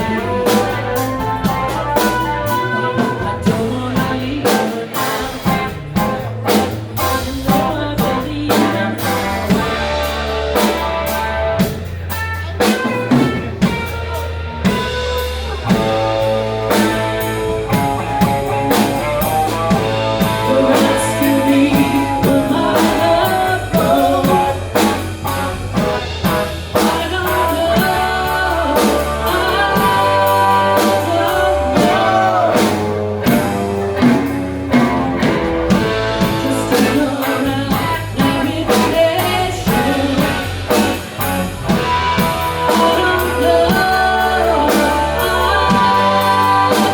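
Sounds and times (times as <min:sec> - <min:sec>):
person singing: 0:00.0 - 0:14.9, 0:15.5 - 0:25.5, 0:26.3 - 0:46.9
rock band playing: 0:00.0 - 0:46.9.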